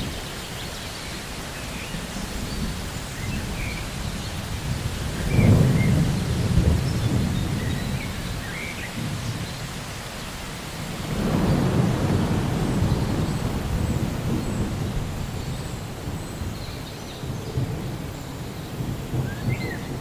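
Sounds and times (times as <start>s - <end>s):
steady rain: 0.0s - 20.0s
low thunder rolls: 2.2s - 9.8s, 10.8s - 20.0s.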